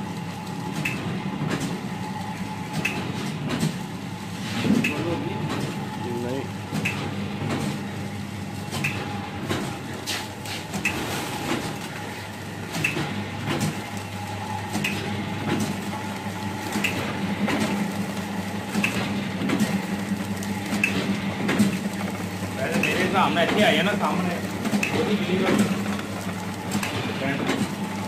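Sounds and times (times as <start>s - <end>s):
machine motor hum: 0.0s - 28.0s.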